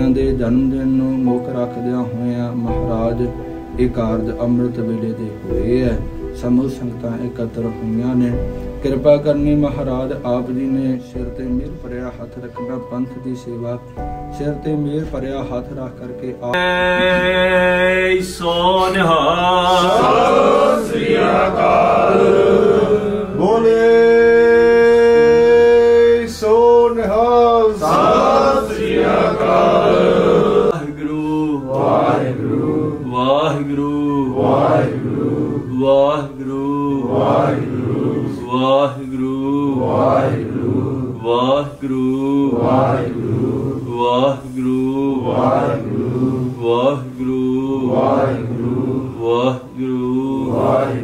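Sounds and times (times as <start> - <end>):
man chanting: 0.0 - 51.0.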